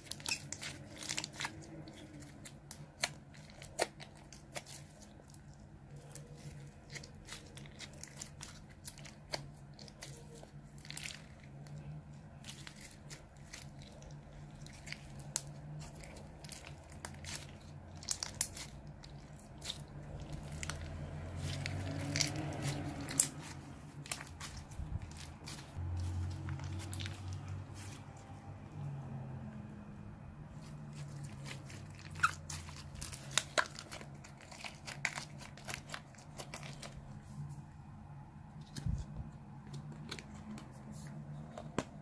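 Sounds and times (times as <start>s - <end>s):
slime crackling and popping: 0.0s - 27.6s, 31.0s - 37.0s.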